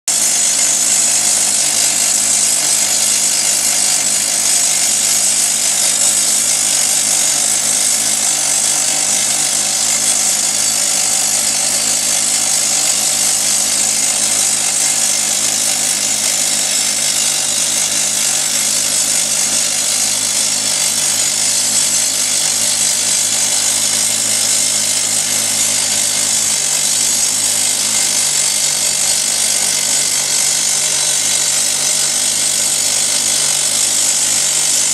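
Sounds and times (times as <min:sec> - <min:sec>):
rock drill hammering: 0:00.1 - 0:34.9.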